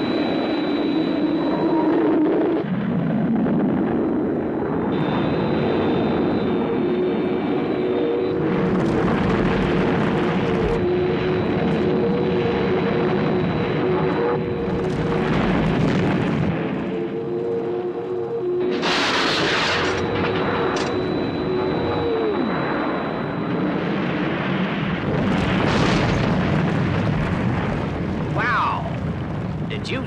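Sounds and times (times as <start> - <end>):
jet engine rushing with whine: 0.0 - 30.0.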